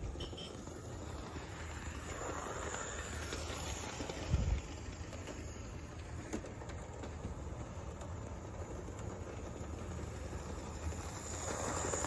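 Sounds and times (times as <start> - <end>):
model train motor hum: 0.0 - 12.0.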